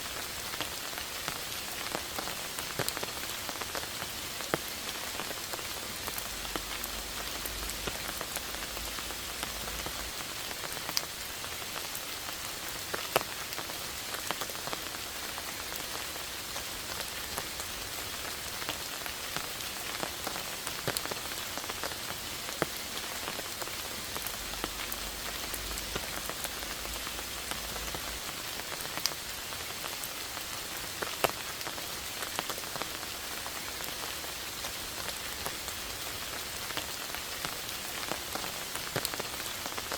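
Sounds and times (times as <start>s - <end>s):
steady rain hiss: 0.0s - 39.9s
raindrops ticking close by: 0.5s - 39.9s.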